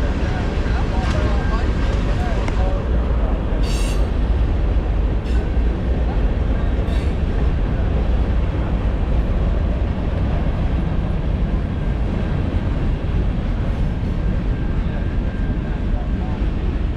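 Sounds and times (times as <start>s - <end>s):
freight train rumbling on rails: 0.0s - 16.9s.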